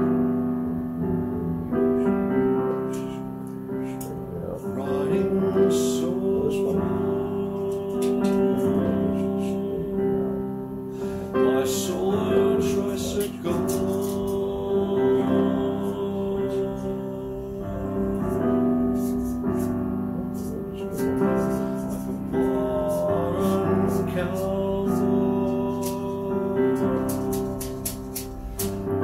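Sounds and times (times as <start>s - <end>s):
held keyboard chords: 0.0s - 29.0s.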